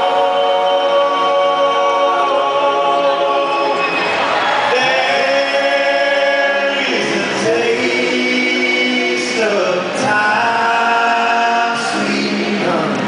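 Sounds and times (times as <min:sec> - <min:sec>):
voices singing in harmony: 0:00.0 - 0:13.0.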